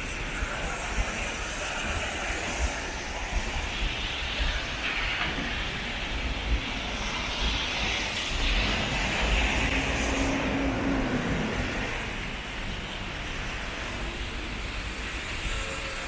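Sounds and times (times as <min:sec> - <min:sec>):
traffic noise with hiss: 0:00.0 - 0:16.0.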